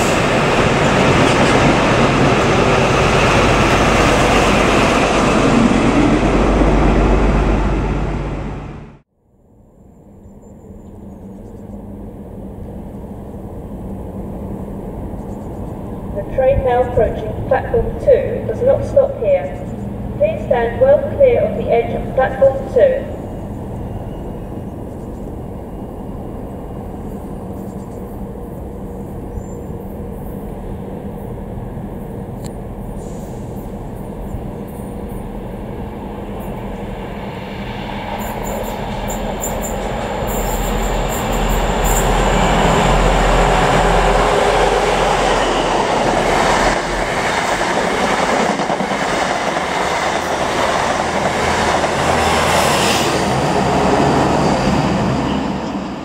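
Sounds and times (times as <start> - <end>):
train passing through station: 0.0 - 56.0.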